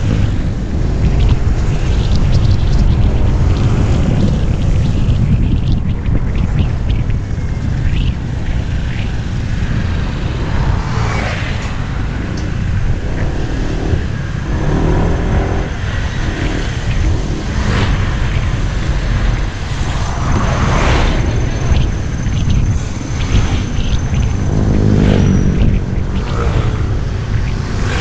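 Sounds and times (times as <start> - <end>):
vehicle engine droning: 0.0 - 28.0
vehicles swishing by: 0.0 - 28.0
wind and road rumble: 0.0 - 28.0.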